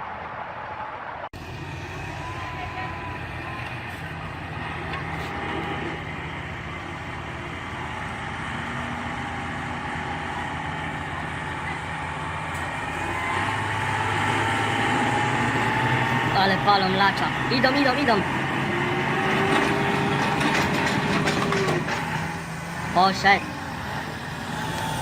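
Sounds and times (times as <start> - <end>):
engine whine: 0.0 - 25.0
heavy truck engine under load: 1.4 - 25.0.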